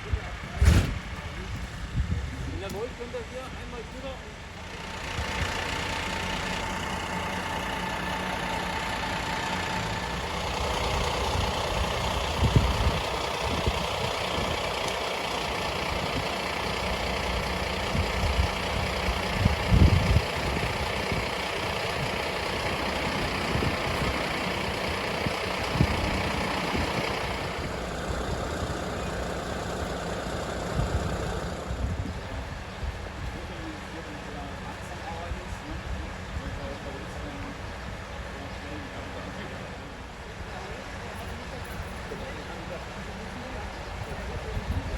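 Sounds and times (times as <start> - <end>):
large engine idling: 0.0 - 44.9.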